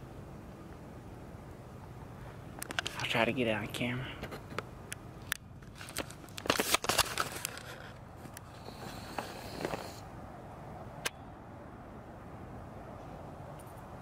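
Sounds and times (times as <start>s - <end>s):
quiet outdoor background: 0.0s - 14.0s.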